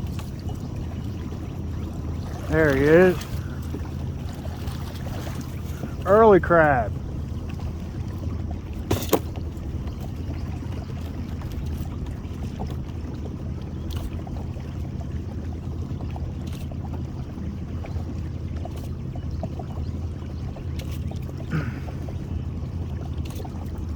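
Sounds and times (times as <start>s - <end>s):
boat motor idling: 0.0s - 23.9s.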